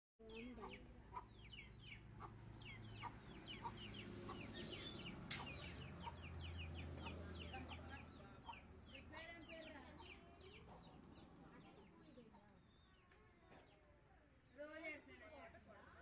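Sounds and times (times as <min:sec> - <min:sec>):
bird chirping: 0:00.2 - 0:13.9.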